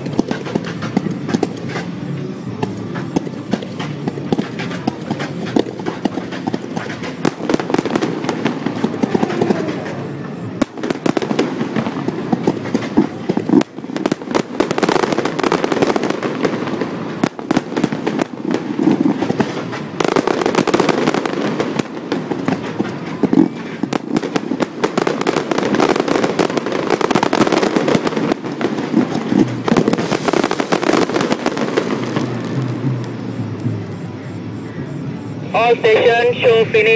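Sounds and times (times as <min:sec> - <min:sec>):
fireworks bangs and crackles: 0:00.0 - 0:36.9
steady rushing noise: 0:00.0 - 0:36.9.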